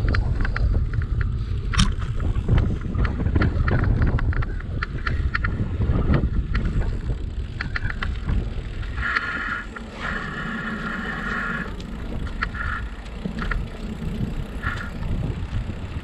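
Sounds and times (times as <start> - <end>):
bicycle rumble: 0.0 - 16.0
sharp clicks and rattles: 0.0 - 16.0
wind buffeting microphone: 0.0 - 16.0.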